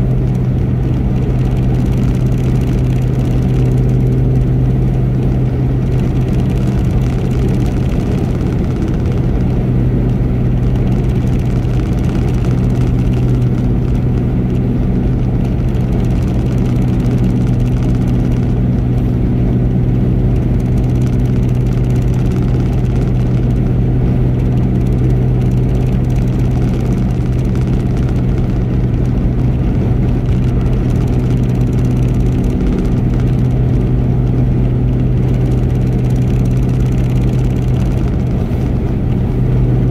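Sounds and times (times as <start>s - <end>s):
car engine drone: 0.0s - 39.9s
road and tyre rumble: 0.0s - 39.9s.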